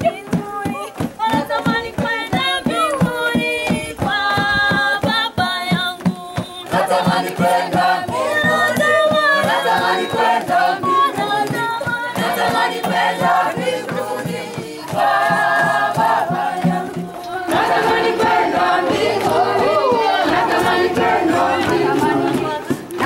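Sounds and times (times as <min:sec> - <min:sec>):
group of voices singing: 0:00.0 - 0:23.0
steady rhythmic beat: 0:00.0 - 0:23.0.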